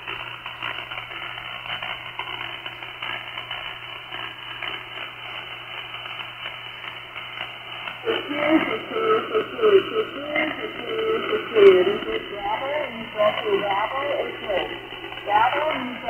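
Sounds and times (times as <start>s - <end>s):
low steady hum: 0.0s - 16.0s
radio band noise hiss: 0.0s - 16.0s.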